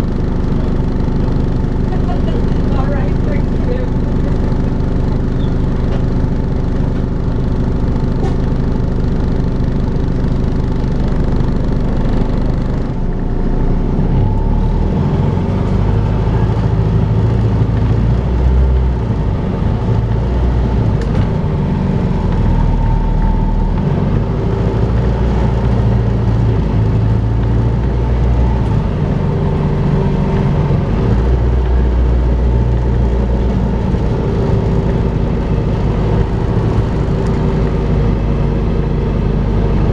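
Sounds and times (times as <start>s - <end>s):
bus engine: 0.0s - 39.9s
steady whirring whine: 0.0s - 39.9s.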